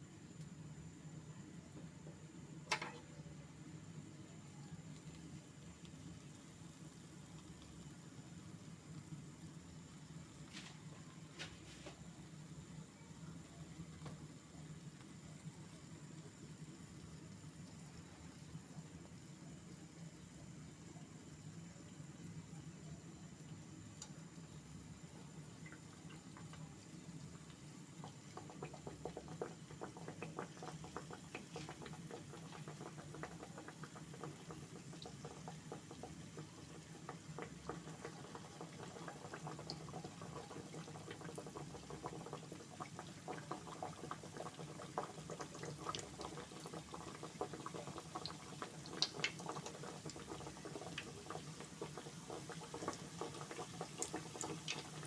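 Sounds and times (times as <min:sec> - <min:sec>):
dough sizzling in hot oil: 0:00.0 - 0:55.0.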